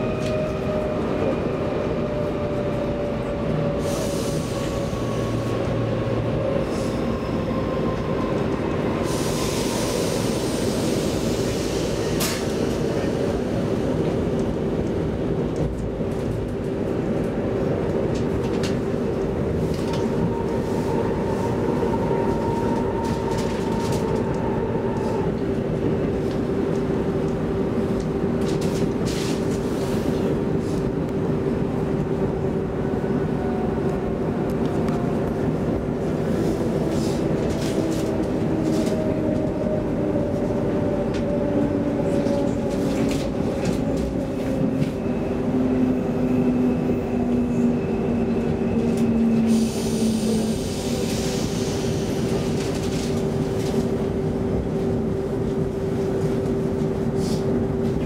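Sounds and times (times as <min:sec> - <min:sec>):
train hum: 0:00.0 - 0:58.0.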